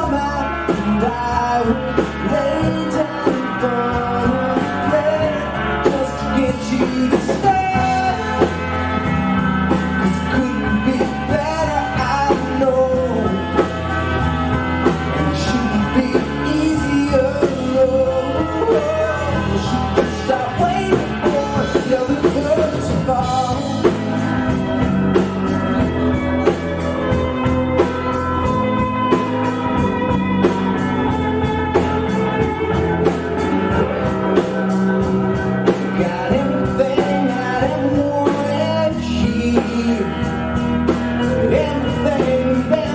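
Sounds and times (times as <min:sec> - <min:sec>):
drums and bass beat: 0:00.0 - 0:42.9
live rock band playing: 0:00.0 - 0:42.9.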